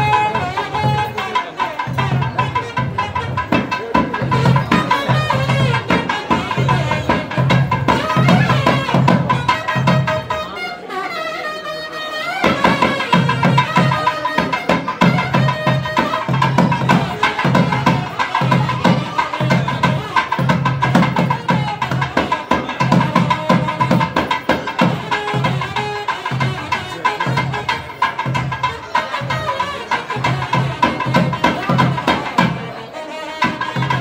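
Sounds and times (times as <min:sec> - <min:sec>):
drum beat: 0:00.0 - 0:10.4, 0:12.4 - 0:34.0.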